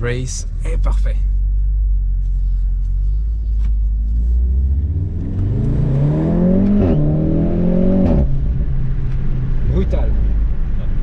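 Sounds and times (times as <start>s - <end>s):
car engine under hard acceleration: 0.0s - 11.0s.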